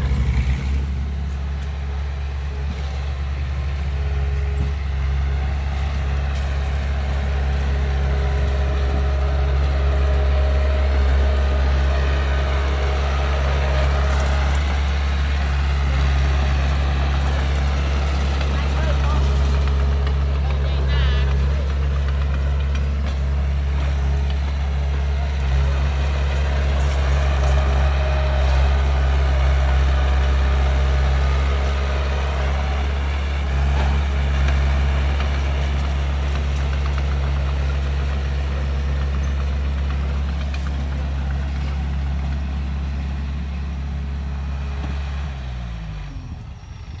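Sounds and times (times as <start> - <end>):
heavy diesel engine idling: 0.0 - 47.0.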